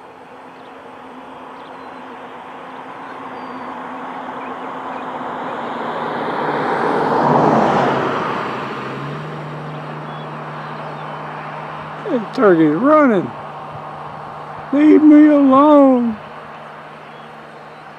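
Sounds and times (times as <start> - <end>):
vehicle driving past: 0.0 - 17.9.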